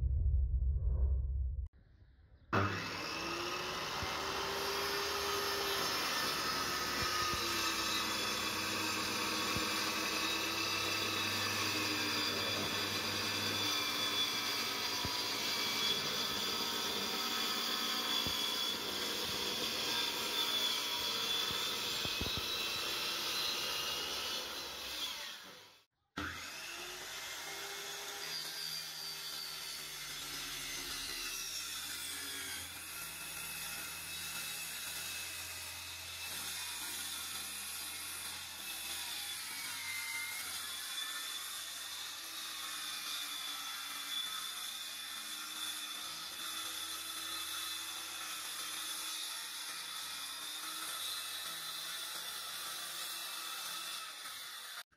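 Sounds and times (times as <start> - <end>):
circular saw cutting board: 2.5 - 54.9.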